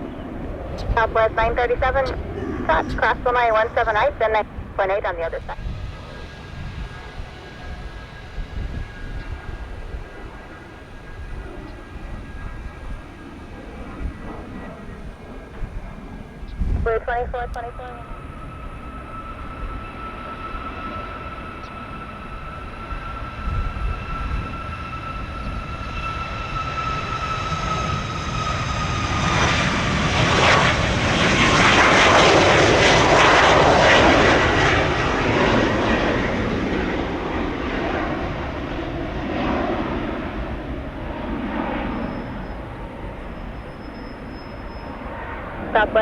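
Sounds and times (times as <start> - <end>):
jet engine roar: 0.0 - 46.0
jet engine whine: 0.0 - 46.0.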